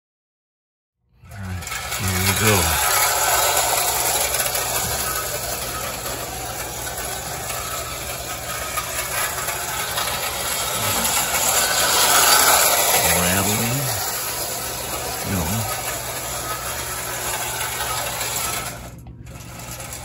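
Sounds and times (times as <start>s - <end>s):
toy train motor running: 1.2s - 20.0s.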